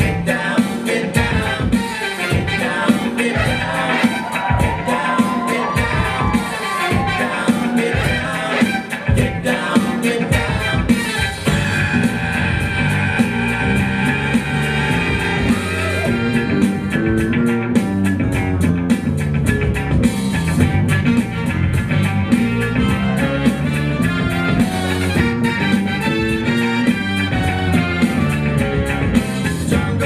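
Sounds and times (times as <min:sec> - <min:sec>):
rock music with guitar and drums: 0:00.0 - 0:30.0.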